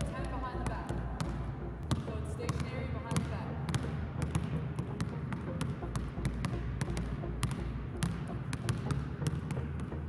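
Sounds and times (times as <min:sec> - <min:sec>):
basketballs bouncing on hardwood floor: 0:00.0 - 0:10.0.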